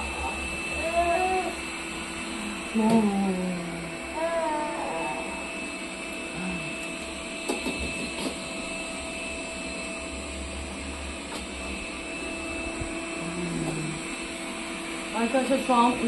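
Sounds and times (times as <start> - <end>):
household appliance humming: 0.0 - 16.0.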